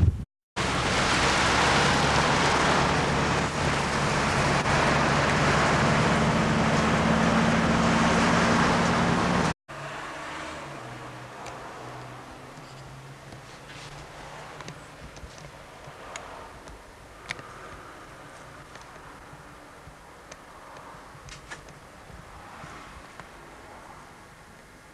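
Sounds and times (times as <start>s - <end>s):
low engine hum: 0.0s - 24.9s
vehicle running noise from inside: 0.6s - 24.9s.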